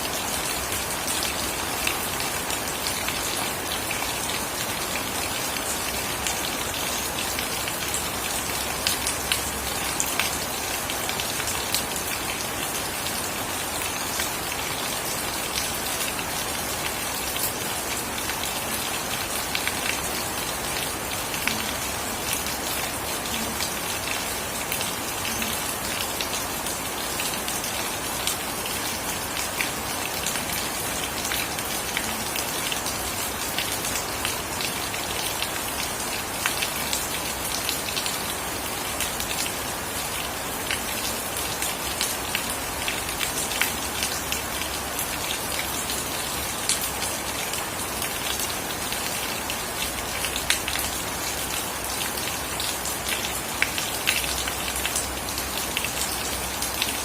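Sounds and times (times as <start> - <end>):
steady rain hiss: 0.0 - 57.0
raindrops ticking on hard surfaces: 0.1 - 57.0.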